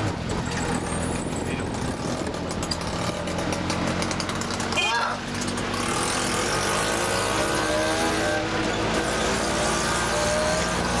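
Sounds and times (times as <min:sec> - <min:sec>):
auto-rickshaw engine growl: 0:00.0 - 0:11.0.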